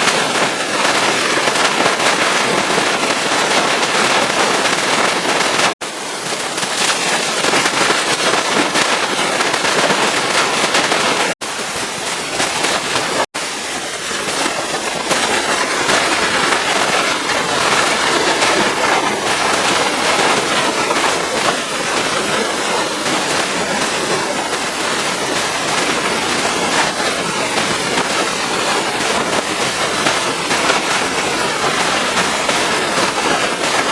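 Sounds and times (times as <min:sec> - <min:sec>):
pressure washer spraying: 0:00.0 - 0:33.9.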